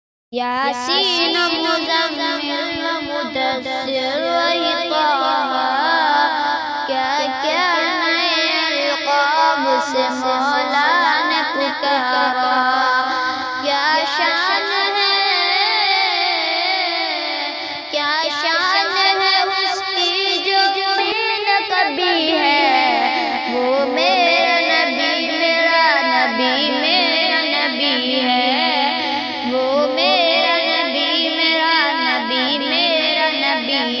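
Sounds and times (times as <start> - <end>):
a cappella devotional singing: 0.4 - 34.0.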